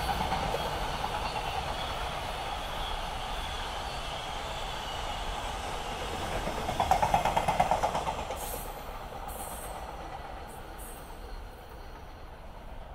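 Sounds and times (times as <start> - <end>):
freight train rumbling: 0.0 - 12.9.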